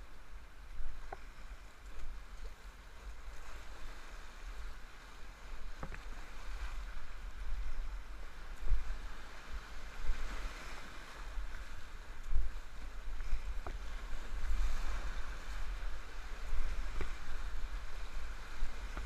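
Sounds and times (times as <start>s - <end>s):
muffled whitewater rushing: 0.0s - 19.0s.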